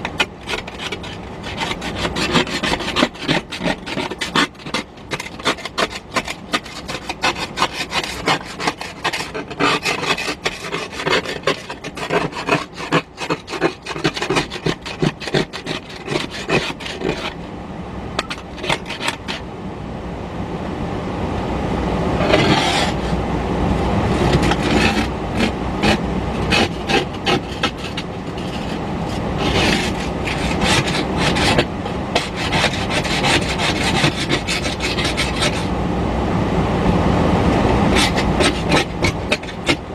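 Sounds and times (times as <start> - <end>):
ice scraper scraping car window: 0.0 - 17.4, 18.2 - 19.4, 22.2 - 23.2, 24.0 - 35.7, 37.7 - 39.9.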